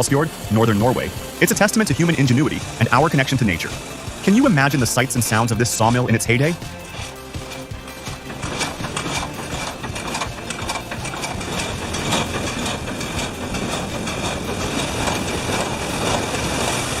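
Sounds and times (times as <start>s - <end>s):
sawmill machinery clattering: 0.0s - 17.0s
water rushing: 0.0s - 17.0s.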